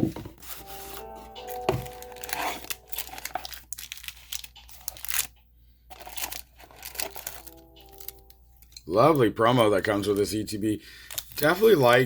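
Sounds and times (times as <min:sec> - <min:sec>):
plastic and cardboard packaging crinkling: 0:00.0 - 0:12.0.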